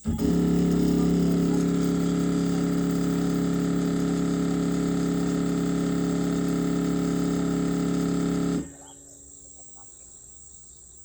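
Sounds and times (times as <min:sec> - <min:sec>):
stepper motors humming: 0:00.0 - 0:10.3.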